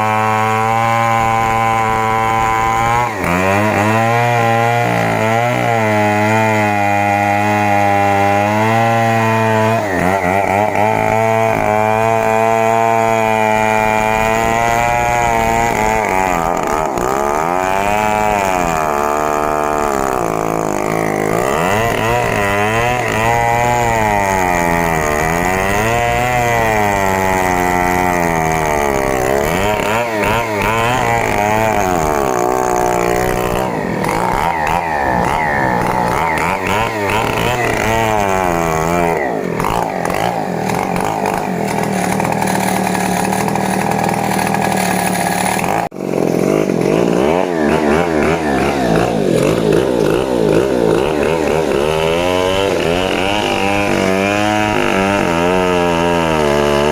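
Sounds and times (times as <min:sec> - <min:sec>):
chainsaw cutting timber: 0:00.0 - 0:56.9.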